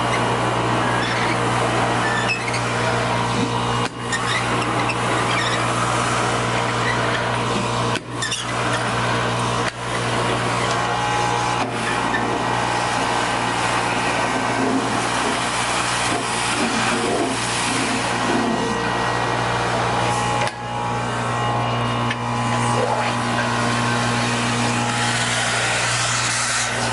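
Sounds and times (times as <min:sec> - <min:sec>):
industrial vacuum running: 0:00.0 - 0:26.9.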